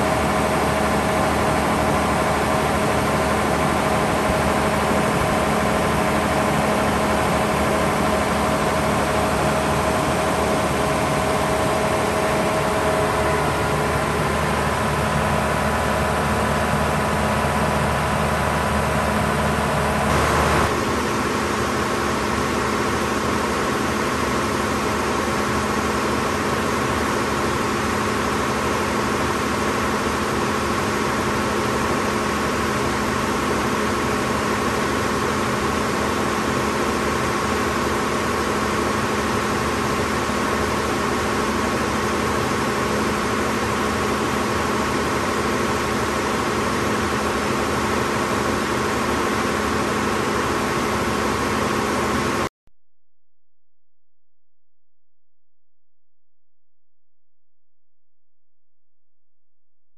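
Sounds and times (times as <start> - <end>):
diesel generator running: 0.0 - 52.5.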